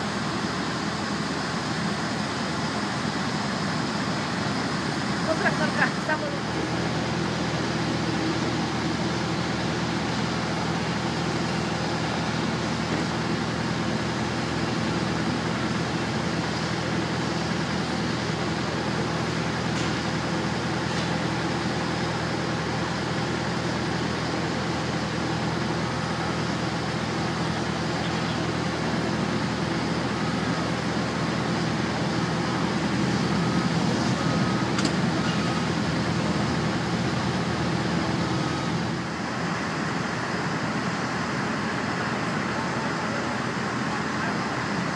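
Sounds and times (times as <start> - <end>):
idling engines drone: 0.0 - 44.9.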